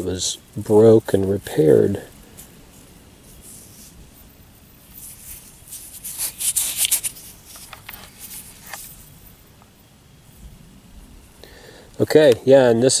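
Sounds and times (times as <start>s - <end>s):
rustling and scraping: 0.0s - 10.6s.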